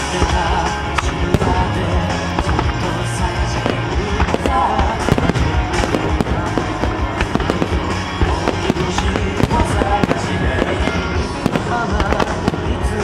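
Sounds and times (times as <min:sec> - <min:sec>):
music from loudspeakers: 0:00.0 - 0:13.0
firework shells bursting: 0:00.2 - 0:13.0.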